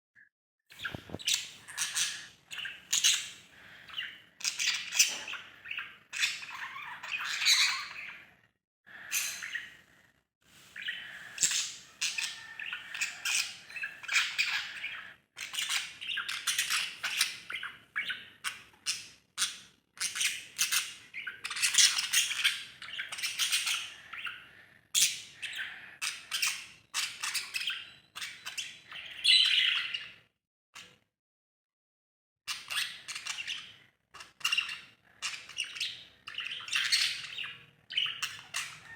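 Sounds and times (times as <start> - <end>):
parrots chattering and squawking: 0.8 - 9.8, 10.8 - 30.2, 32.5 - 38.9.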